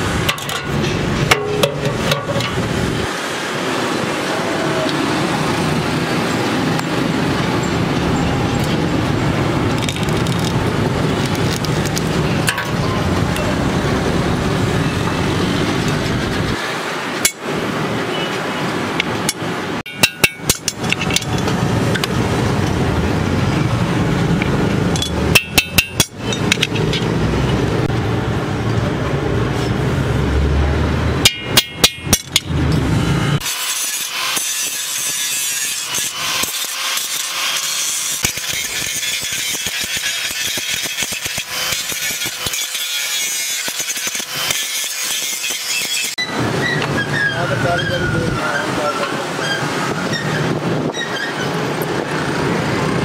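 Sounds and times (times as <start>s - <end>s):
traffic and street noise: 0.0s - 53.0s.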